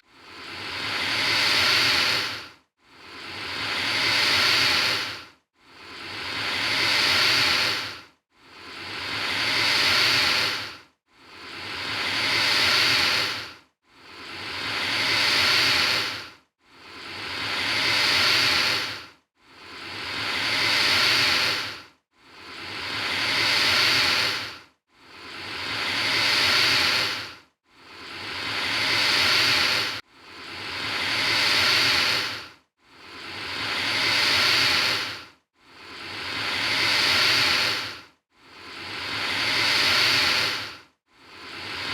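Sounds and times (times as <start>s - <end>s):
alligator hissing: 0.4s - 2.4s, 3.1s - 8.0s, 8.6s - 16.2s, 16.9s - 21.8s, 22.4s - 24.6s, 25.2s - 27.3s, 27.9s - 32.4s, 33.1s - 38.0s, 38.6s - 40.7s.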